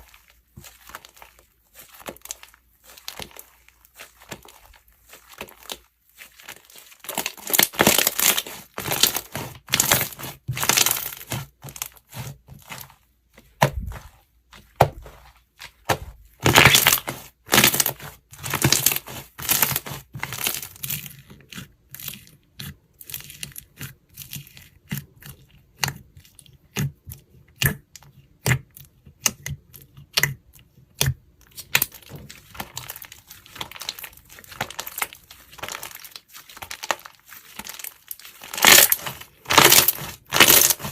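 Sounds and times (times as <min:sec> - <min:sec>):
slime crackling and popping: 0:00.6 - 0:12.9, 0:14.7 - 0:25.2, 0:27.5 - 0:40.9.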